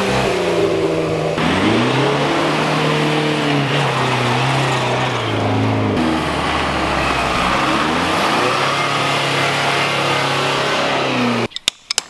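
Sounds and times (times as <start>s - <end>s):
vehicle engine revving: 0.0s - 11.5s.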